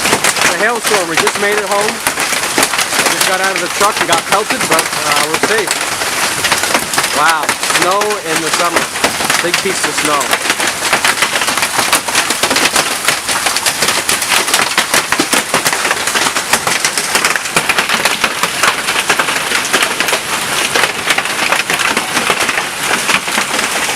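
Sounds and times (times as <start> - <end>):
hailstones clattering: 0.0 - 23.9
rain hissing: 0.0 - 23.9.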